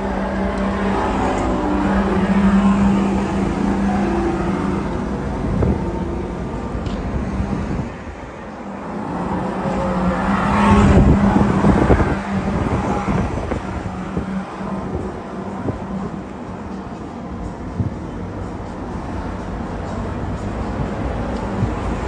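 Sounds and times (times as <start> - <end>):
electric go-kart motor hum: 0.0 - 18.6.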